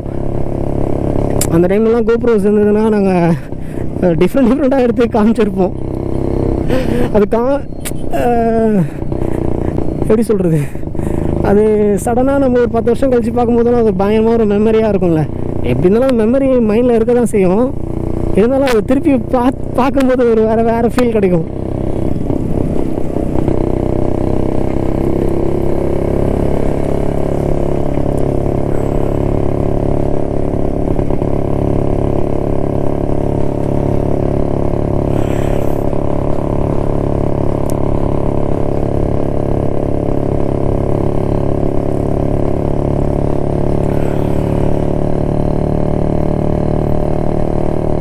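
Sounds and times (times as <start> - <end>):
motorcycle two-stroke engine running: 0.0 - 48.0.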